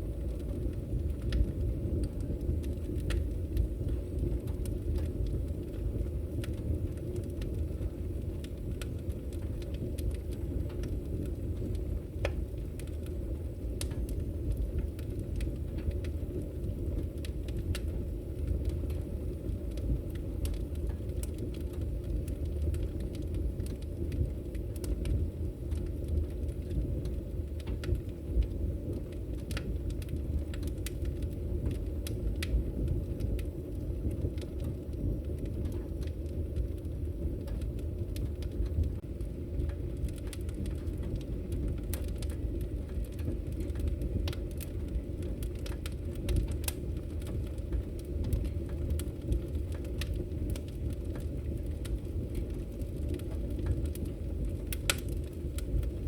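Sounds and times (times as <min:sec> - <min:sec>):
burning logs crackling and popping: 0:00.0 - 0:56.0
low rush of flames: 0:00.0 - 0:56.0.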